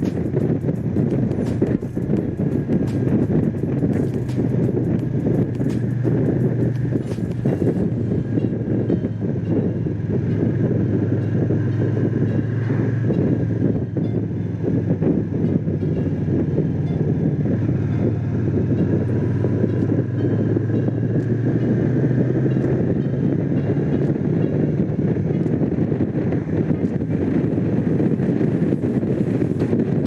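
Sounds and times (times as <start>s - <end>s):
motorcycle engine running: 0.0s - 30.0s
wind noise on microphone: 0.0s - 30.0s.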